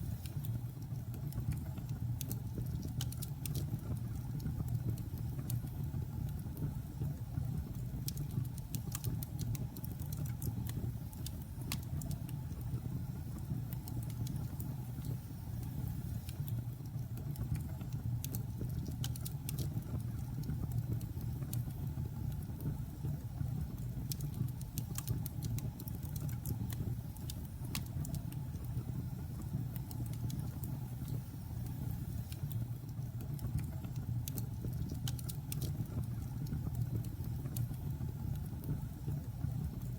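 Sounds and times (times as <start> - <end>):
fireplace crackling and popping: 0.0 - 39.9
low fire rumble: 0.0 - 39.9.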